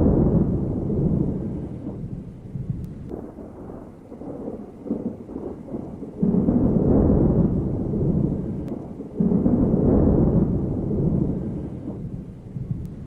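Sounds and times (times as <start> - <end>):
loud thunderclap: 0.0 - 13.0
low thunder rumbling: 0.0 - 13.0.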